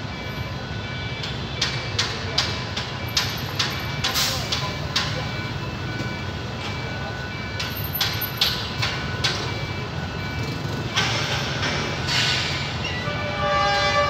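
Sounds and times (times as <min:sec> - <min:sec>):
level crossing signal beeping: 0:00.0 - 0:13.2.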